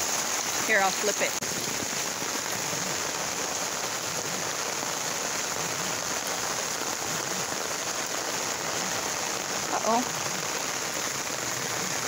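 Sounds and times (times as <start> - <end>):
rain on an umbrella: 0.0 - 12.0.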